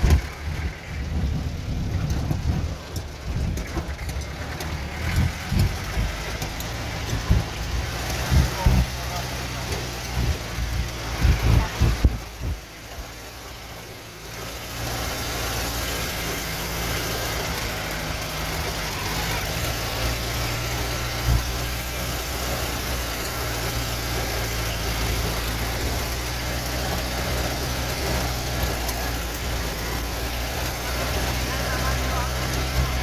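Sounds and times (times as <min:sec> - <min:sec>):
road and wind noise: 0:00.0 - 0:33.0
vehicle engine running: 0:00.0 - 0:33.0.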